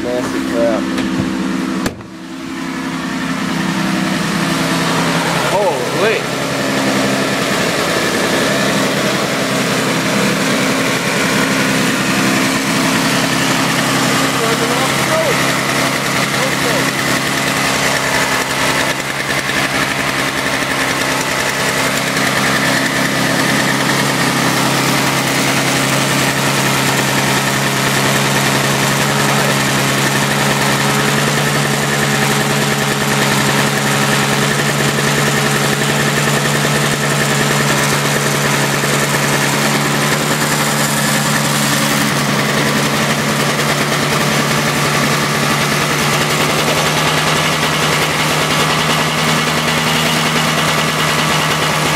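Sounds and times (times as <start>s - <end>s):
snowblower engine running: 0.0s - 51.9s.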